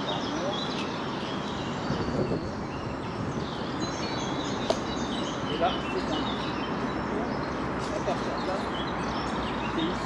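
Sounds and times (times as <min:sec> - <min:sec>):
rushing outdoor background noise: 0:00.0 - 0:10.0
small birds chirping: 0:00.0 - 0:10.0.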